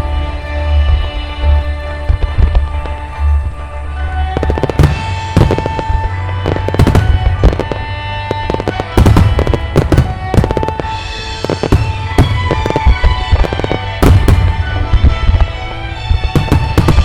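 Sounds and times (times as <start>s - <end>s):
fireworks booming and crackling: 0.0s - 17.0s
music playing: 0.0s - 17.0s.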